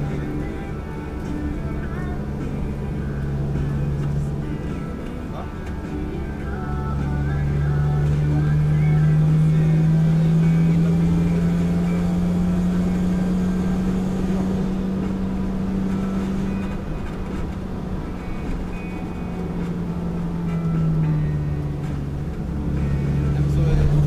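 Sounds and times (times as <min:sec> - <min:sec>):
car engine droning: 0:00.0 - 0:24.0
road and tyre noise: 0:00.0 - 0:24.0.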